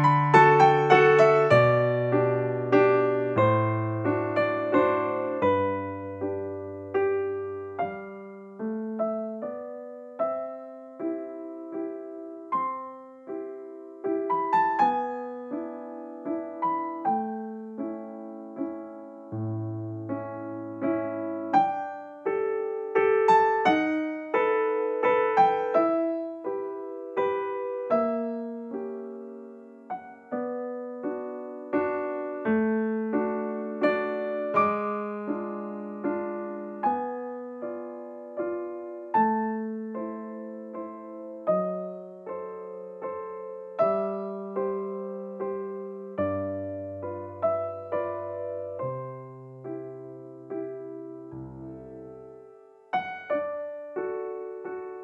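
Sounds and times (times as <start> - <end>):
piano melody: 0.0 - 55.0.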